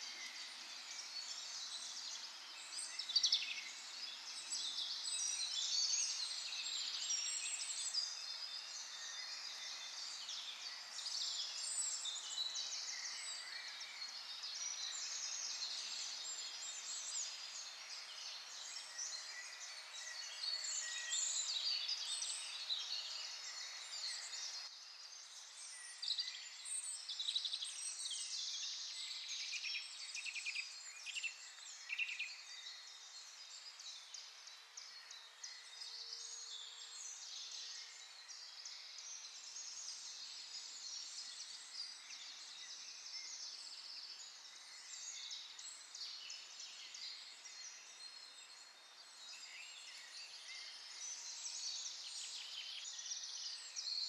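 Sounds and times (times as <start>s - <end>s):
small birds chirping and trilling: 0.0s - 54.0s.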